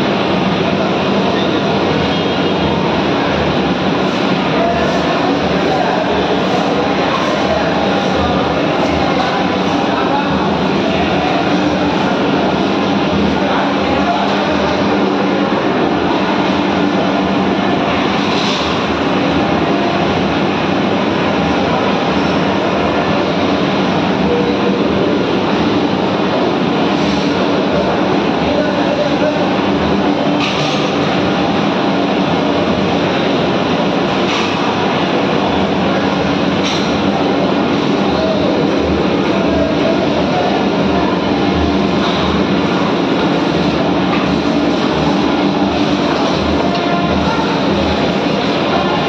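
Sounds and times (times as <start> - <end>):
kitchen roar: 0.0 - 49.0.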